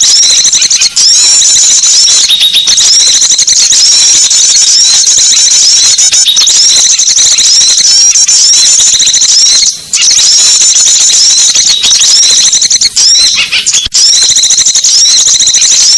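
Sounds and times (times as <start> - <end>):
songbirds twittering: 0.0 - 15.9.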